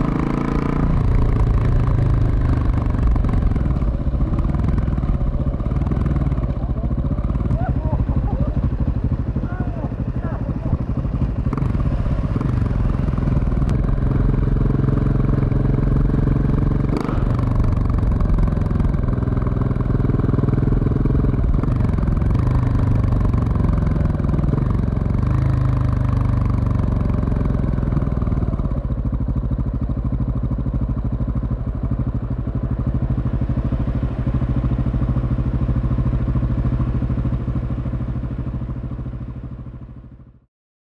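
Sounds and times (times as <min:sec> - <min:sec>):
motorcycle engine revving: 0:00.0 - 0:40.4.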